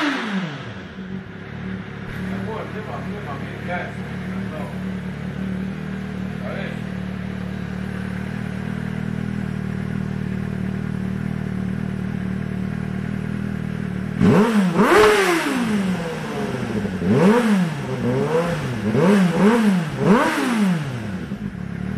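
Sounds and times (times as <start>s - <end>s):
motorcycle engine idling and revving: 0.0s - 21.9s.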